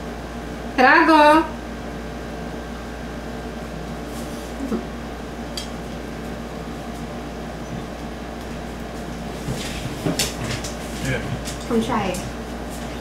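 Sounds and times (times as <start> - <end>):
mechanical room hum: 0.0 - 13.0.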